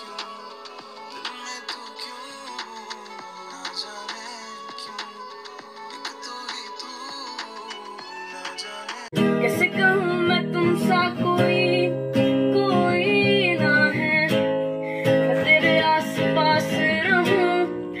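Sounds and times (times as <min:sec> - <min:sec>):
person singing: 0:00.0 - 0:18.0
strummed acoustic guitar: 0:00.0 - 0:18.0.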